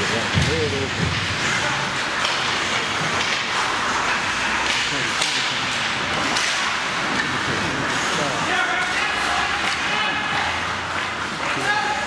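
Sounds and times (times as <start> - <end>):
spectators' voices: 0.0 - 12.0
skates scraping ice: 0.3 - 12.0.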